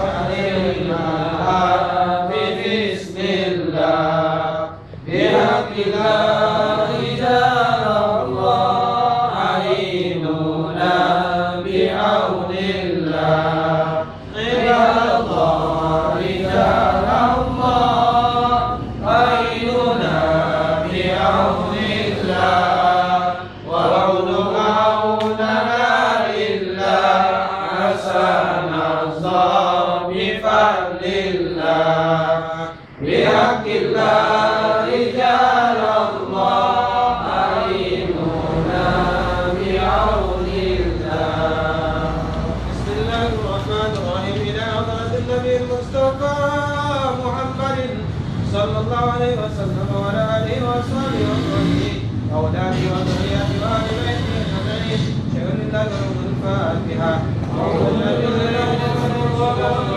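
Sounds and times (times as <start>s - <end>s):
men chanting together: 0.0s - 59.9s.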